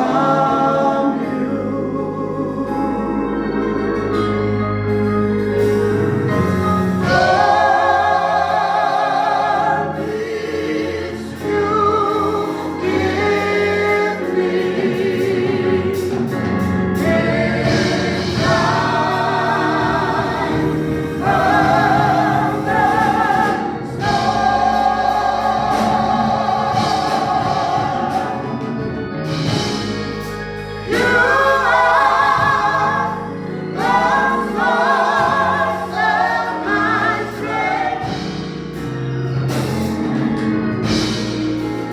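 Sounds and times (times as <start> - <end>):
choir singing gospel: 0.0 - 41.9
instrumental accompaniment: 0.0 - 41.9.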